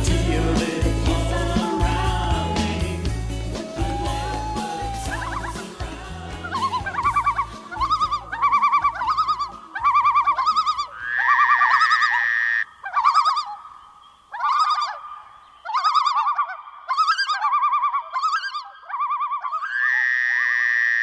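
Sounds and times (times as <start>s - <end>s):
warbling bird-like calls: 3.5s - 21.0s.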